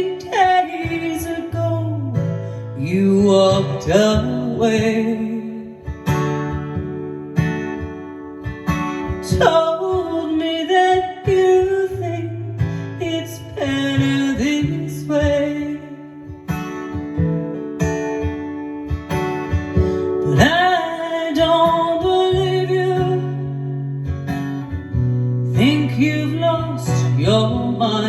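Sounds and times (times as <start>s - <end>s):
strummed acoustic guitar: 0.0s - 28.0s
woman singing country song: 0.0s - 28.0s.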